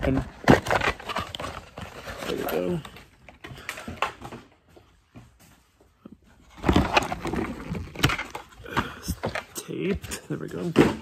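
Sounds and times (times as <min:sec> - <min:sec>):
packaging rustling and knocking: 0:00.0 - 0:04.5, 0:06.4 - 0:11.0.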